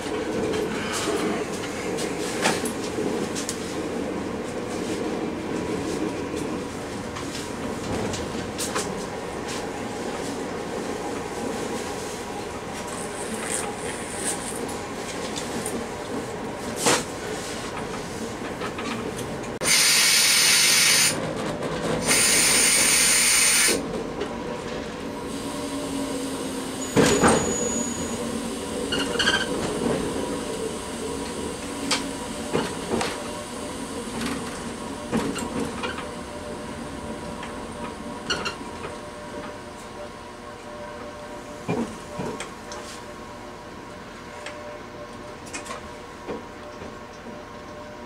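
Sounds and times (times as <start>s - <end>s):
train running noise: 0.0s - 48.0s.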